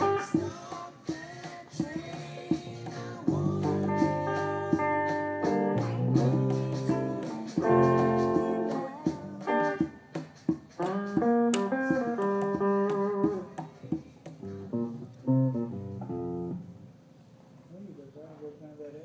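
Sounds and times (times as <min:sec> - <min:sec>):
guitar playing chords: 0:00.0 - 0:00.8, 0:02.0 - 0:17.0
conga hits: 0:00.0 - 0:16.4.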